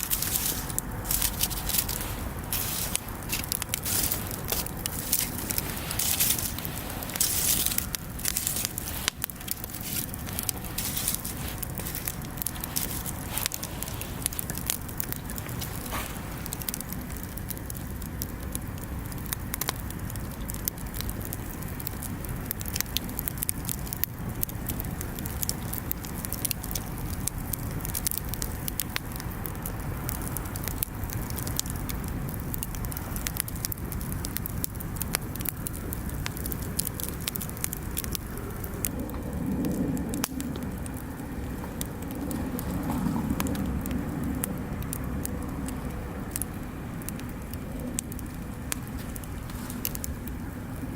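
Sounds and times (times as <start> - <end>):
bonfire crackling and popping: 0.0 - 50.9
low steady burning noise: 0.0 - 50.9.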